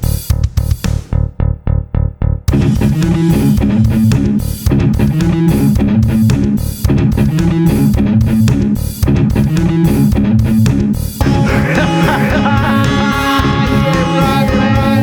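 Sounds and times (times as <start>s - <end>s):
drum kit beat: 0.0s - 1.4s, 2.5s - 15.0s
heavy guitar and bass riff: 0.0s - 15.0s.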